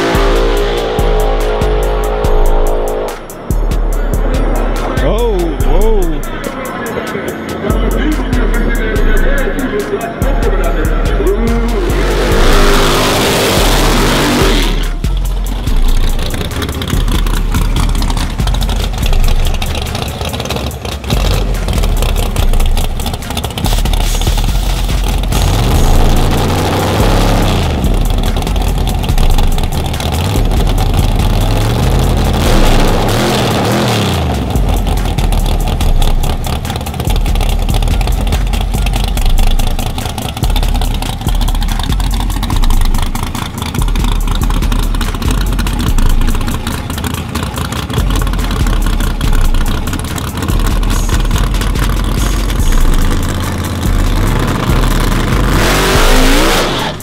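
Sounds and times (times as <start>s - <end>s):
loud car engine revving: 0.0s - 57.0s.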